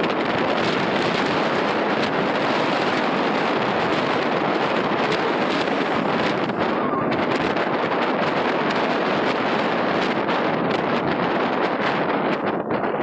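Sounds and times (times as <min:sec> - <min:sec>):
road noise: 0:00.0 - 0:13.0
wind rushing over microphone: 0:00.0 - 0:13.0.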